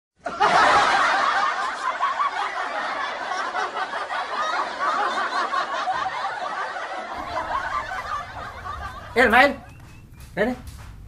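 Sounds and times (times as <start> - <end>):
laugh track: 0.2 - 10.6.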